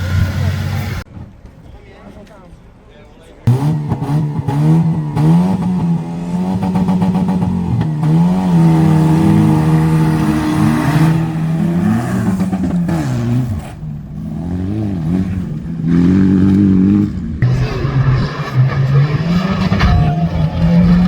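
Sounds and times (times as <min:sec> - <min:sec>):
rally car engines revving hard: 0:03.4 - 0:21.0.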